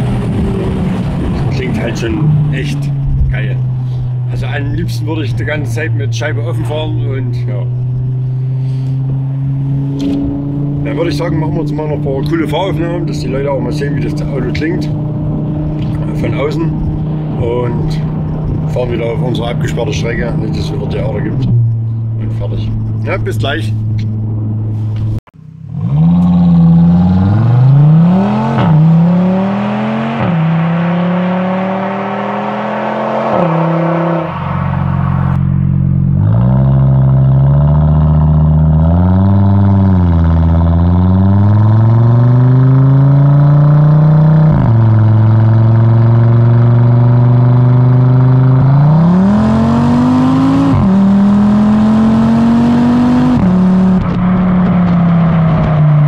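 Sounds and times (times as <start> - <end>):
car engine accelerating hard: 0.0 - 56.0.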